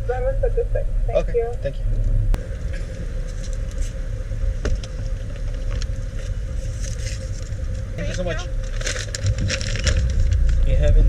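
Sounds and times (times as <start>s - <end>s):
car engine idling: 0.0s - 11.0s
faint steady hum: 0.0s - 11.0s.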